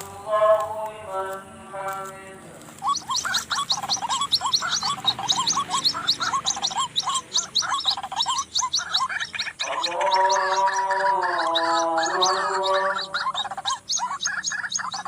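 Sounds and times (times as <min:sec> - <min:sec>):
waterhen calling rapidly: 0:02.6 - 0:15.0.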